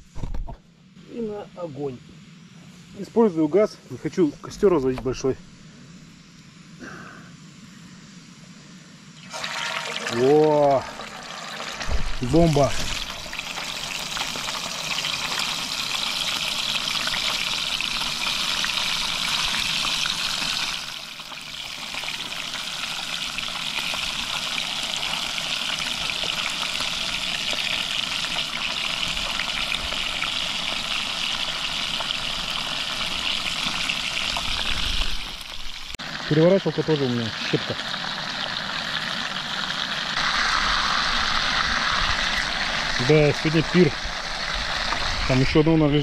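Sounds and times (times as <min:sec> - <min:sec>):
fish sizzling in hot oil: 0:09.2 - 0:46.0.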